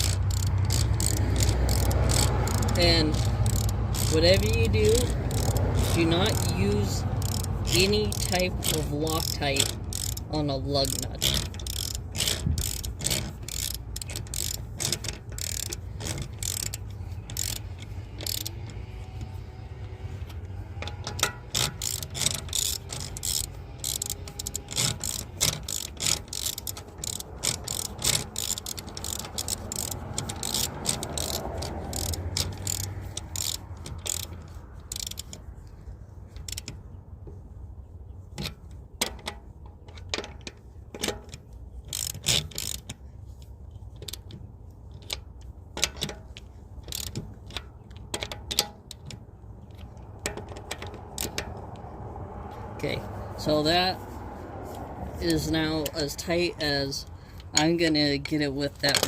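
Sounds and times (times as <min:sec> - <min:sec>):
ratchet wrench clicking: 0:00.0 - 0:37.4, 0:38.3 - 0:59.0.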